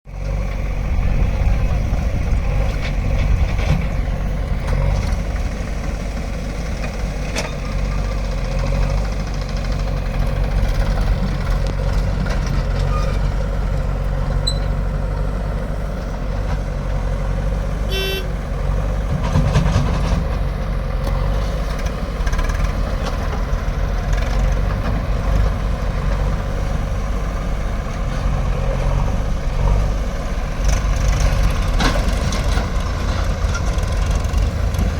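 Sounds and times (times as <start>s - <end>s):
heavy diesel engine running: 0.1s - 34.9s.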